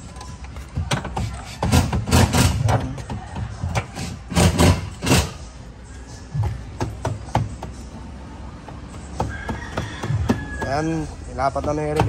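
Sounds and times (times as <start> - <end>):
hand tools knocking and thumping: 0.6 - 5.4, 6.4 - 7.8, 8.6 - 12.0.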